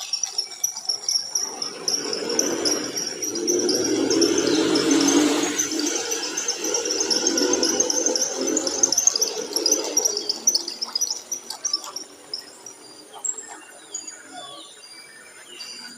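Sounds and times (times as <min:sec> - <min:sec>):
birds chattering chorus: 0:00.0 - 0:15.9.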